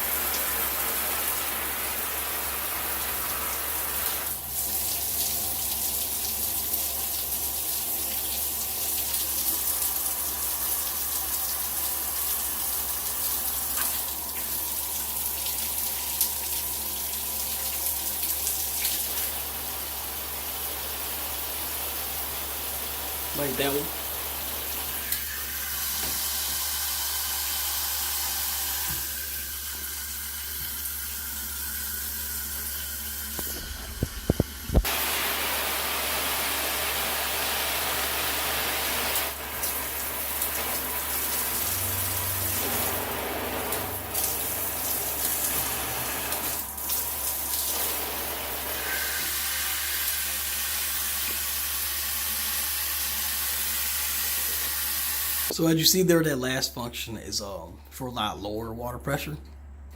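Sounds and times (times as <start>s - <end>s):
shower head spraying water: 0.0s - 55.5s.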